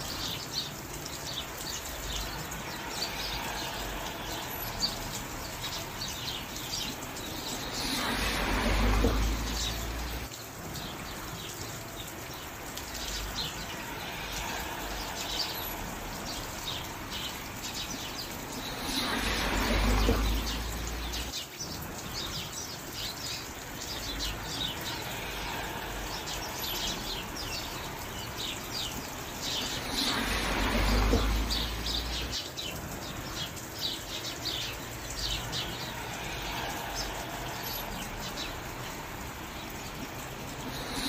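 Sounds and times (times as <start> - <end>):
rain hiss: 0.0 - 41.0
small birds chirping: 0.0 - 41.0.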